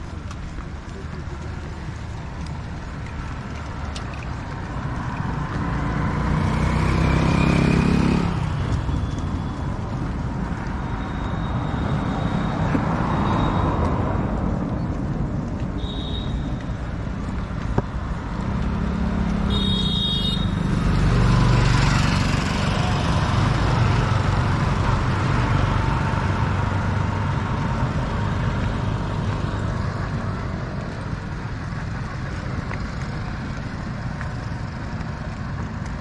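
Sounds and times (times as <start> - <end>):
auto-rickshaw engine: 0.0 - 36.0
traffic hum: 0.0 - 36.0.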